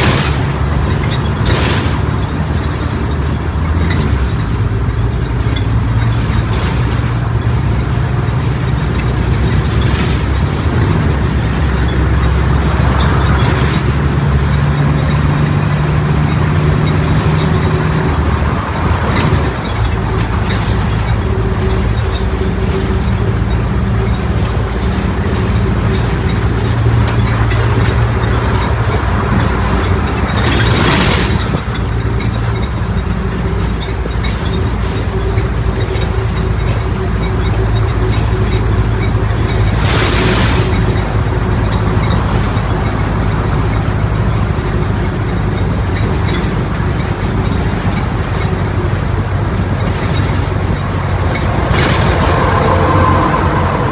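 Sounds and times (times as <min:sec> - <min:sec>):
bus engine running: 0:00.0 - 0:53.9.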